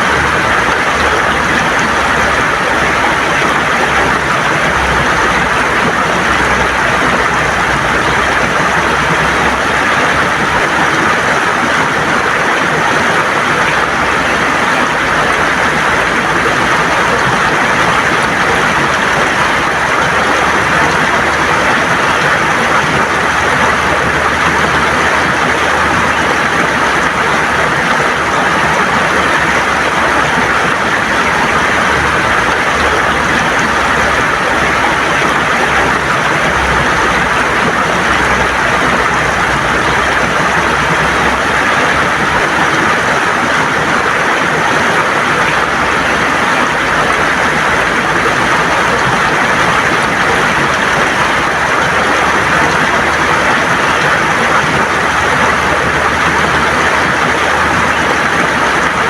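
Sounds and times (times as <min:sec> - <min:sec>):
river water gurgling over stones: 0:00.0 - 0:59.0.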